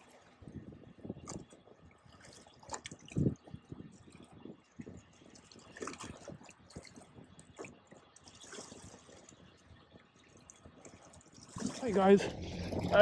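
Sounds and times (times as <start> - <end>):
water lapping and dripping: 0.0 - 13.0
small water splashes: 1.1 - 13.0.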